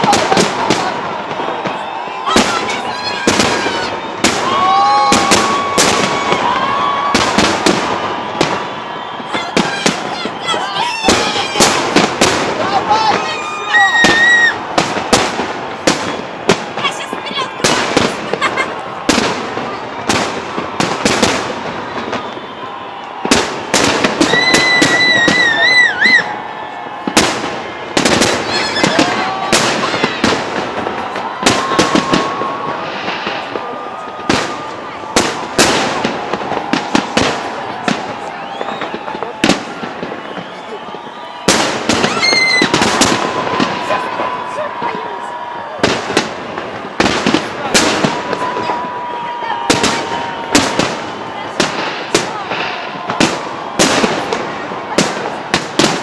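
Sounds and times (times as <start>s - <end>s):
fireworks bursting with bangs: 0.0s - 56.0s
fireworks crackling: 0.0s - 56.0s.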